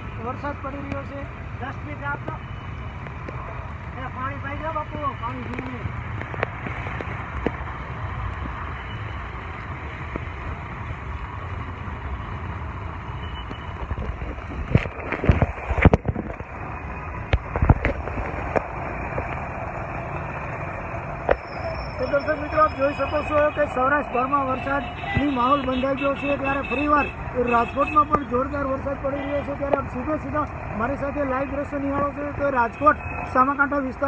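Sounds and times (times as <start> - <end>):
tyres on wet road: 0.0 - 34.0.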